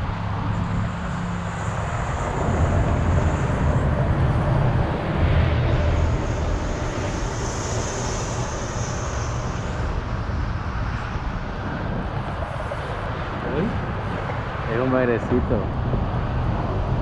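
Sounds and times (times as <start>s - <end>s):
road traffic rumble overhead: 0.0s - 17.0s.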